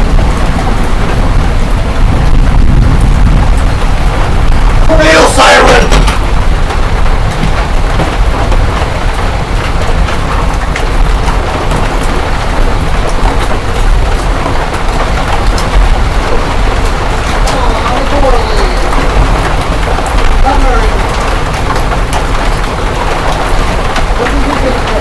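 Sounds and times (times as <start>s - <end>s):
hailstones hitting: 0.0s - 25.0s
heavy rain on a roof: 0.0s - 25.0s.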